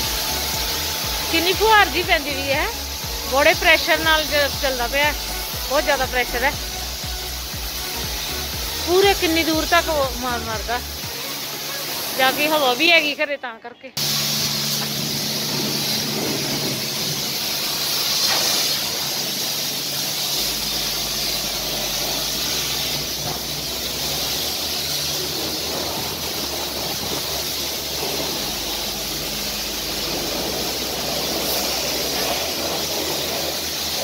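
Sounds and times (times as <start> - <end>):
pressure washer spraying water: 0.0 - 13.3, 14.0 - 34.0.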